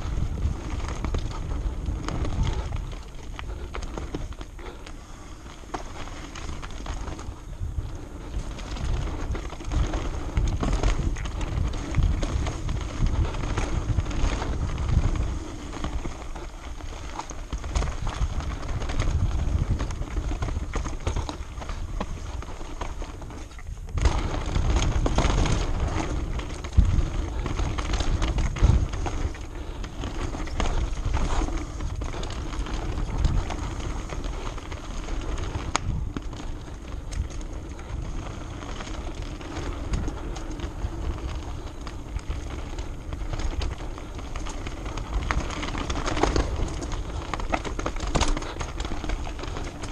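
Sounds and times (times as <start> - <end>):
wind on microphone: 0.0 - 4.8, 5.4 - 49.9
bike frame and chain rattling: 0.0 - 49.9
bike tyres rolling on dirt: 0.0 - 49.9.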